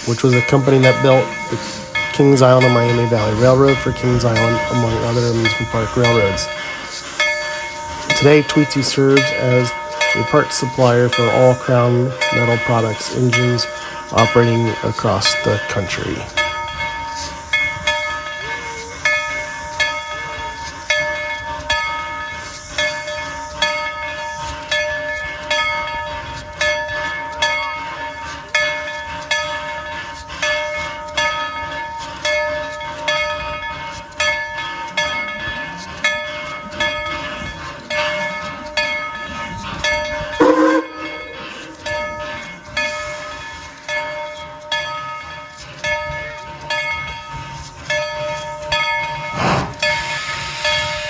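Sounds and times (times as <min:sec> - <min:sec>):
locomotive bell ringing: 0:00.0 - 0:51.0
low rumble of train running: 0:00.0 - 0:51.0.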